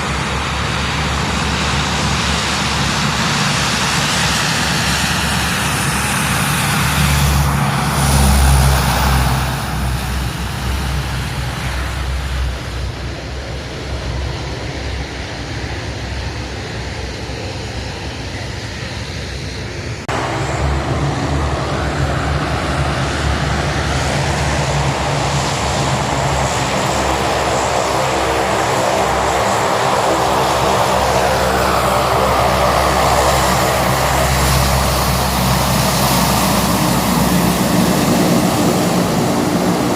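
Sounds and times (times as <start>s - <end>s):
aircraft engine drone with whine: 0.0s - 39.9s
aircraft passing: 0.0s - 39.9s.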